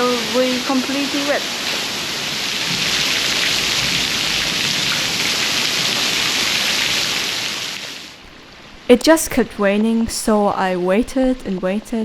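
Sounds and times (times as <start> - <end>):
heavy rain splashing: 0.0 - 12.0.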